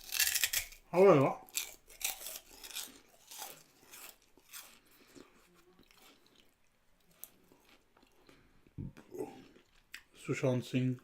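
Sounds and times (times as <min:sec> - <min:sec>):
person chewing: 0:00.0 - 0:10.2.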